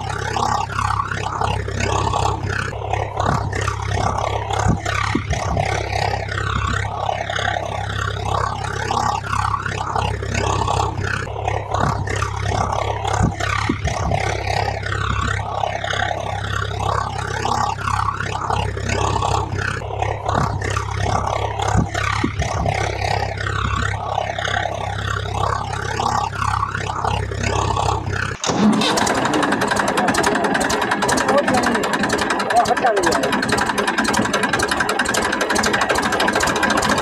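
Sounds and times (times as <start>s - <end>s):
motor revving: 0.0s - 37.0s
rough engine sound: 0.0s - 37.0s
steady low hum: 0.0s - 37.0s.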